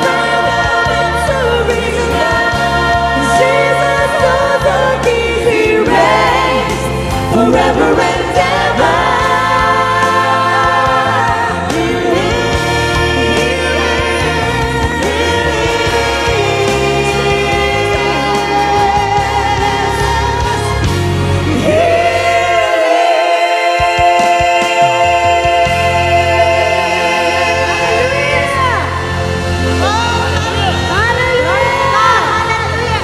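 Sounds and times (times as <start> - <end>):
band accompaniment: 0.0 - 33.0
gospel choir singing: 0.0 - 33.0.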